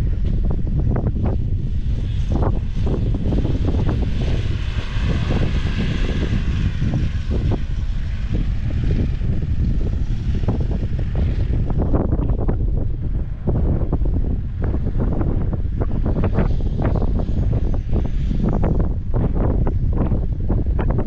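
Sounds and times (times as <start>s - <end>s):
vehicle driving through sand: 0.0s - 21.0s
wind buffeting microphone: 0.0s - 21.0s.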